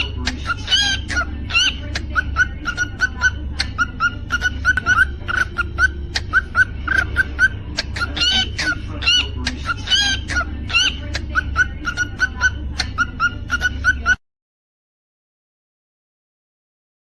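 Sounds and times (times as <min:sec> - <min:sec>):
cockatiel chirping and whistling: 0:00.0 - 0:14.2
steady low hum: 0:00.0 - 0:14.2.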